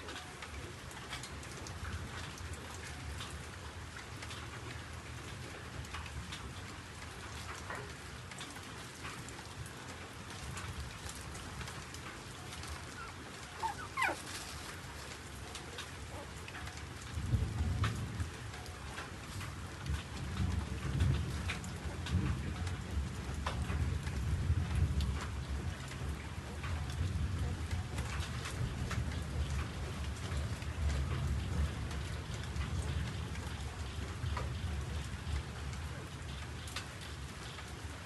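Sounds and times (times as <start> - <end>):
rain patter: 0.0 - 38.0.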